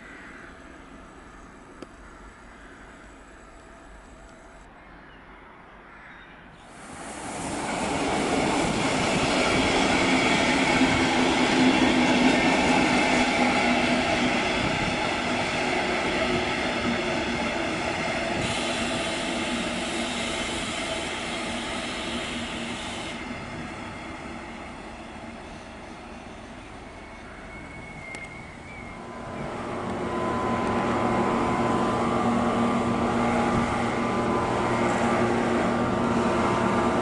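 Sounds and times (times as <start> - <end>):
passenger train rumbling past: 0.0 - 4.7, 6.6 - 37.0.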